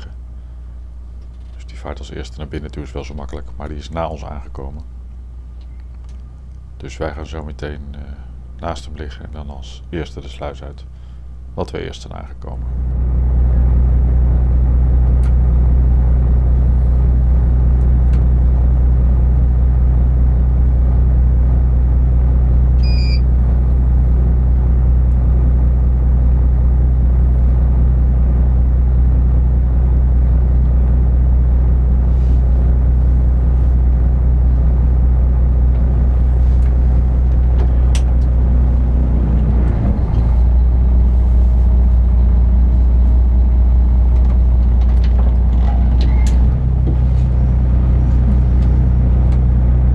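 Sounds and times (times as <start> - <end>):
ship diesel engine drone: 0.0 - 49.9.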